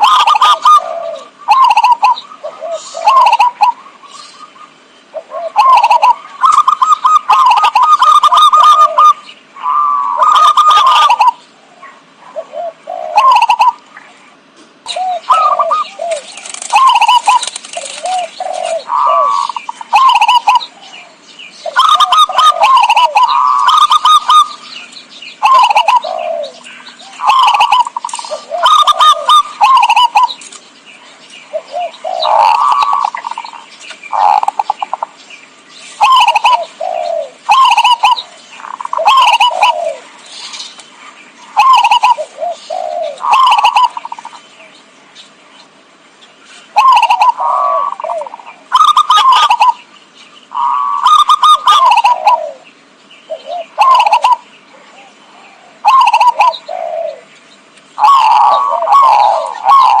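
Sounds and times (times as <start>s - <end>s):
zebra dove cooing: 0.0s - 35.2s, 35.9s - 44.8s, 46.6s - 49.9s, 50.5s - 60.0s.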